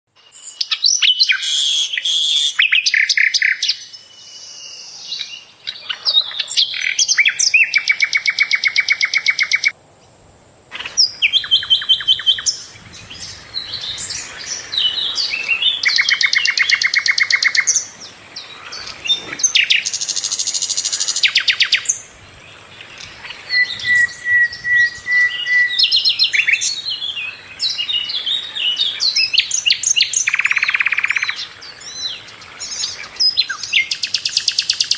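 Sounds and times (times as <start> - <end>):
songbird trilling and chirping: 0.2 - 9.8, 10.8 - 34.9.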